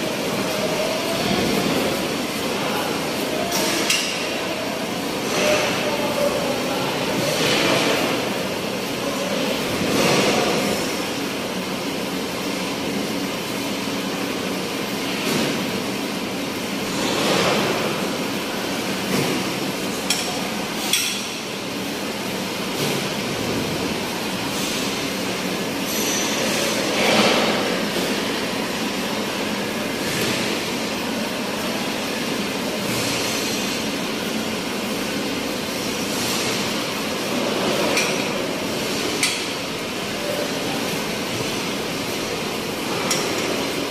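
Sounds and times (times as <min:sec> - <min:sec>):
continuous mechanical noise: 0:00.0 - 0:43.9.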